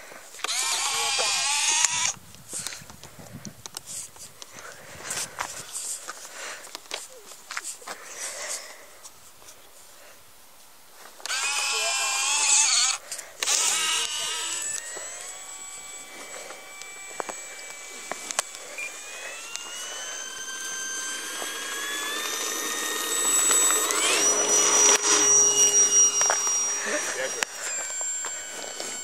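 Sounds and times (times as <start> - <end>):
model plane motor whining: 0.0 - 9.0, 11.1 - 29.0.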